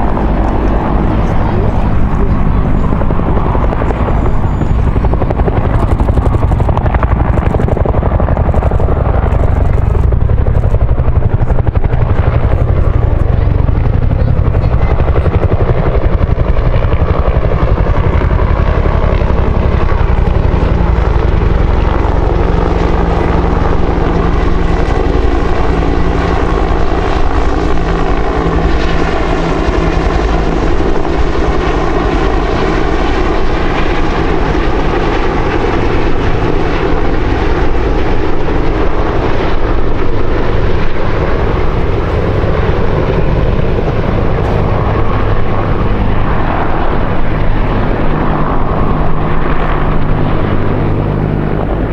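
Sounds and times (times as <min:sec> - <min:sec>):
helicopter rotors beating: 0:00.0 - 0:51.9
turbine engines: 0:00.0 - 0:51.9.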